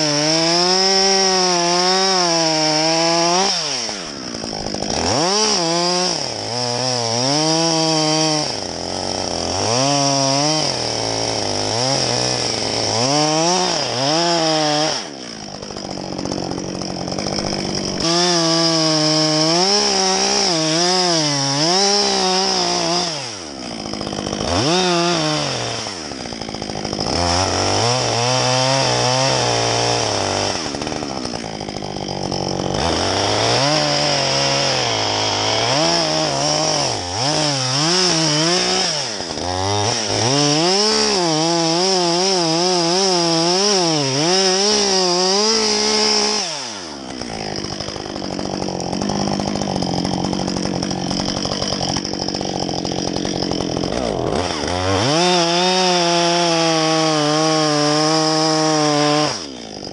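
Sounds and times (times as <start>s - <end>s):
chainsaw cutting through wood: 0.0s - 59.9s.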